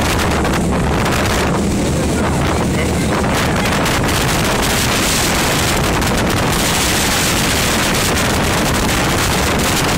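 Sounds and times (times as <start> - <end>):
boat engine: 0.0 - 9.9
water rushing: 0.0 - 9.9
wind buffeting microphone: 0.0 - 9.9.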